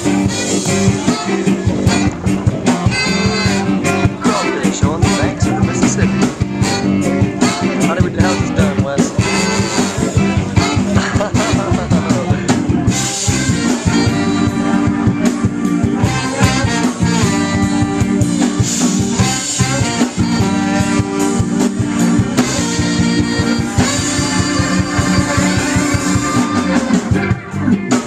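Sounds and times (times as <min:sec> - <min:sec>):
band music with horns: 0:00.0 - 0:28.0
steady drum beat: 0:00.0 - 0:28.0.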